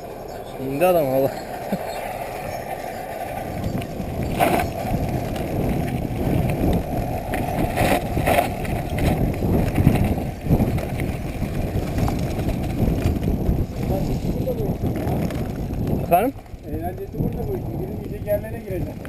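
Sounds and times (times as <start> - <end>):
bike frame rattling: 0.0 - 19.0
bike tyres rumbling on trail: 0.0 - 19.0
wind buffeting microphone: 0.0 - 19.0.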